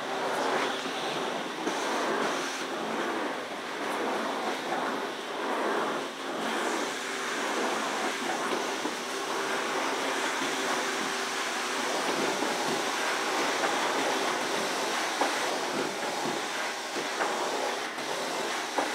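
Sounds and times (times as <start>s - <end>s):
extraction vacuum rushing: 0.0s - 18.9s.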